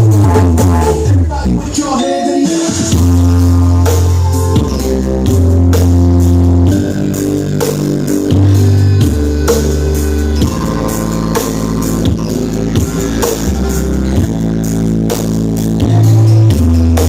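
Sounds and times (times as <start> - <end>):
loud bass-heavy music: 0.0 - 17.0.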